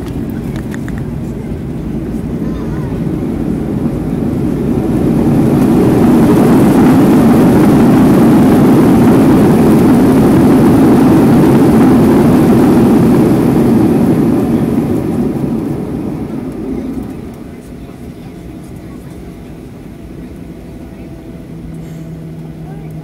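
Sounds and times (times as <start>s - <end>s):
jet engine roar inside cabin: 0.0s - 23.0s.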